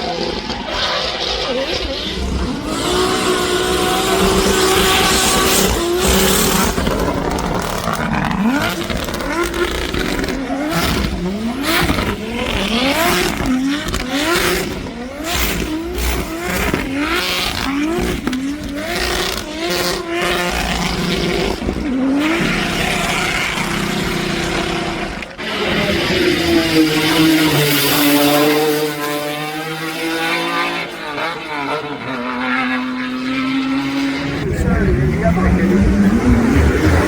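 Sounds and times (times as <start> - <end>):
noisy background: 0.0 - 37.0
race car engine revving: 0.0 - 37.0.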